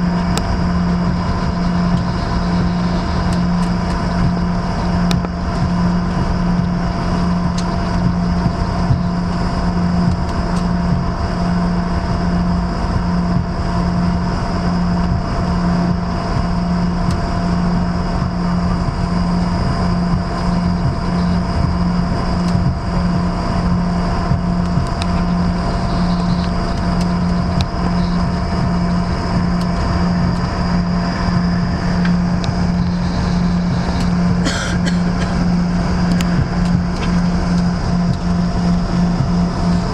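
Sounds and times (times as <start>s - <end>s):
aircraft engines low hum: 0.0s - 39.9s
high whining tones: 0.0s - 39.9s
steady rushing hiss: 0.0s - 39.9s.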